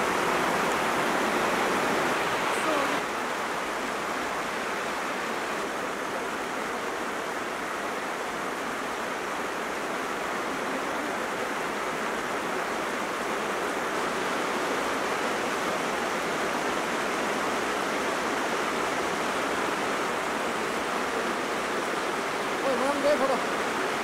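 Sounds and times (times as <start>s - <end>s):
rain falling steadily: 0.0s - 24.0s.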